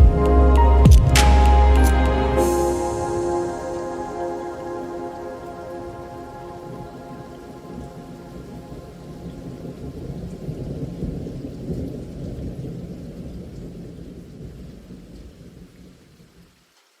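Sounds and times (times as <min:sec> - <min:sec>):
low rumble of thunder: 0:00.0 - 0:16.5
rain: 0:00.0 - 0:17.0.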